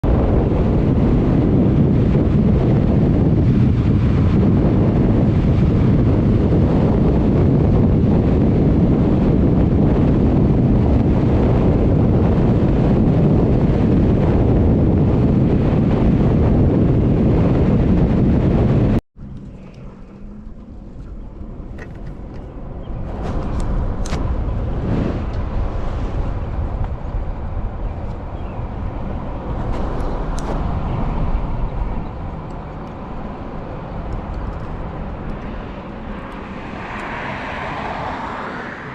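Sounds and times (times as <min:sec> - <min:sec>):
outdoor vehicle sound: 0:00.0 - 0:38.9
wind buffeting microphone: 0:00.0 - 0:38.9.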